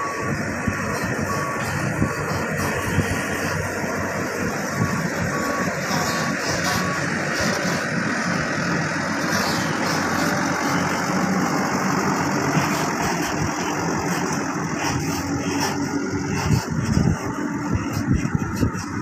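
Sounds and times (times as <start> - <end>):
diesel truck engine passing: 0.0 - 19.0.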